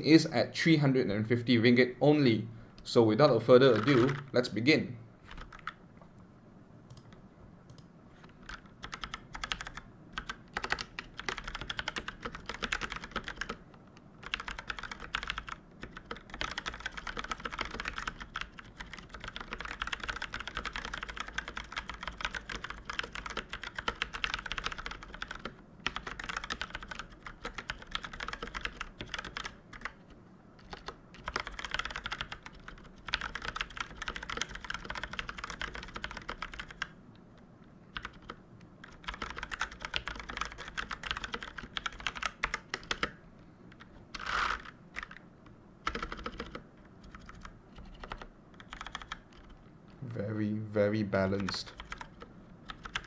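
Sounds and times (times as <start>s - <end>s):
mechanical keyboard typing: 3.4s - 4.4s, 5.3s - 5.8s, 7.7s - 13.6s, 14.2s - 37.0s, 37.9s - 45.2s, 45.8s - 49.6s, 51.2s - 53.0s.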